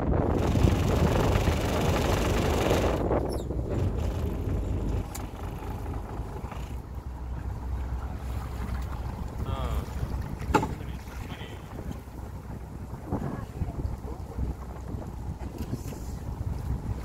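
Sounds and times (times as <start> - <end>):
boat engine idling: 0.0 - 17.0
wind buffeting microphone: 0.0 - 17.0.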